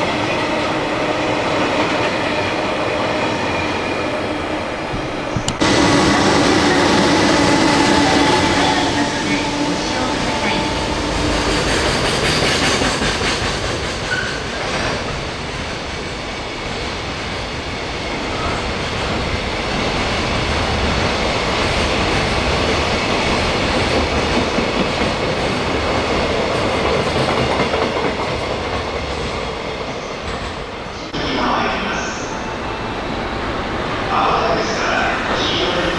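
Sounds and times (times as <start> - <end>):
train wheels on rails: 0.0 - 35.9.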